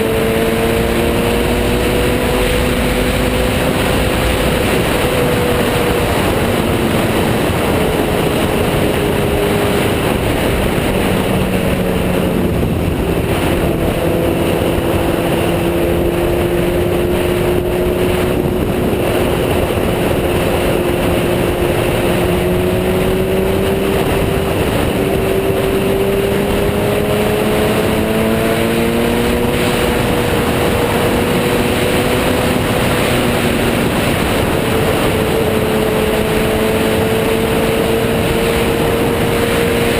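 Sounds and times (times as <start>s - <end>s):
motorcycle engine cruising: 0.0s - 39.9s
wind rushing: 0.0s - 39.9s.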